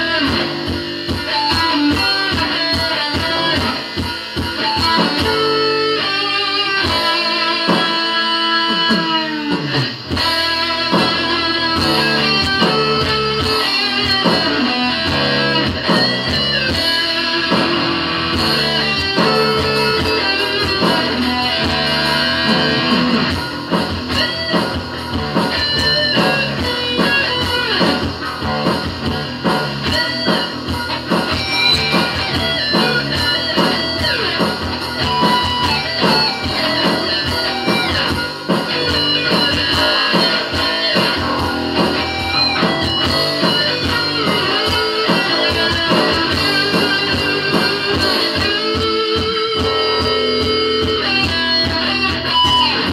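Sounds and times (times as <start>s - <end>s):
electric guitar rock playing: 0.0s - 52.9s.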